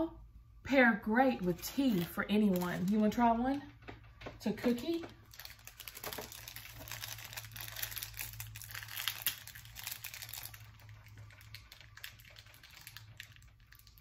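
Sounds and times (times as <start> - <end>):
snack wrappers crinkling: 1.4 - 3.7, 4.9 - 14.0.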